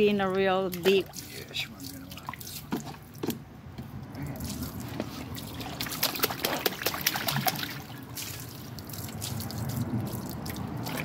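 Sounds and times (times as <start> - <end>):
water splashing in a pool: 0.5 - 3.3, 4.1 - 11.0.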